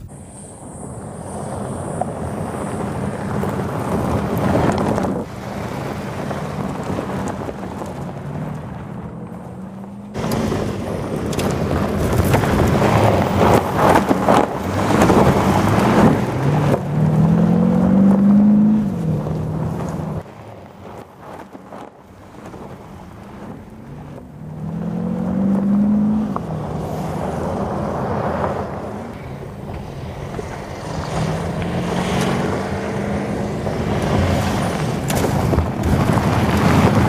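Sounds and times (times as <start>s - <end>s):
diesel engine running hard: 0.0s - 37.0s
tyres crunching over gravel: 0.8s - 37.0s.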